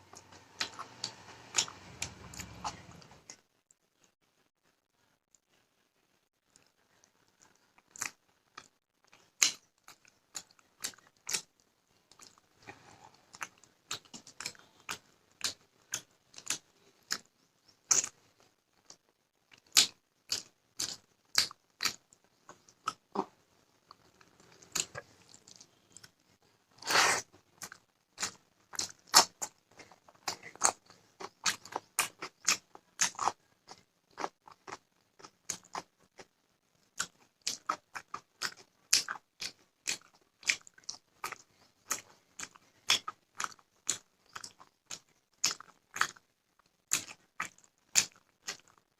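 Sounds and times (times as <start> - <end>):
person chewing and crunching food: 0.0 - 5.8, 6.4 - 48.9.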